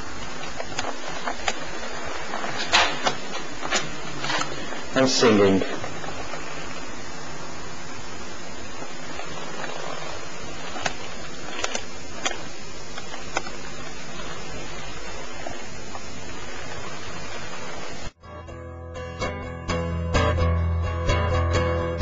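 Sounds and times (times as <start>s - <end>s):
camcorder recording hiss: 0.0s - 18.2s.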